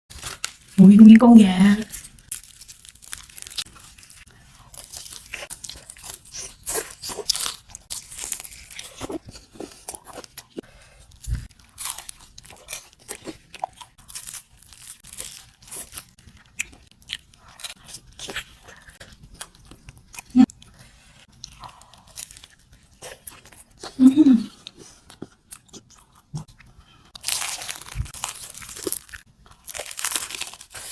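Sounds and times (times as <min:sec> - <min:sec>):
crunching and chewing fried chicken: 0:00.1 - 0:00.8, 0:01.8 - 0:30.9.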